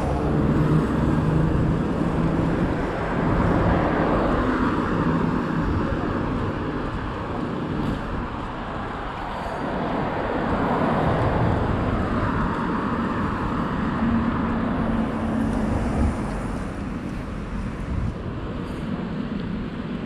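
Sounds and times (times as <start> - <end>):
cars passing: 0.0 - 20.0
steady engine hum: 0.0 - 20.0.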